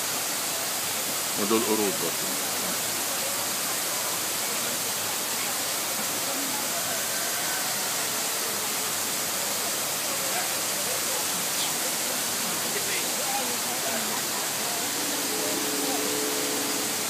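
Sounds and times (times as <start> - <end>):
waterfall rushing: 0.0 - 17.0
faint voices: 1.4 - 17.0.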